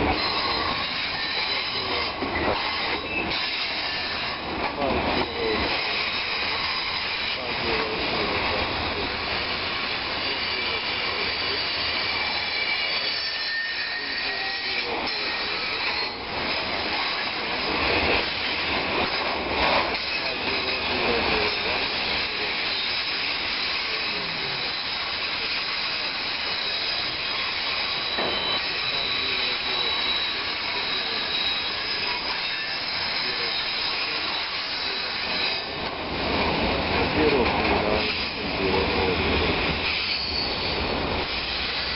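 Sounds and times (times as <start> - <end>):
high whining tones: 0.0 - 41.9
train wheels rumbling on rails: 0.0 - 41.9.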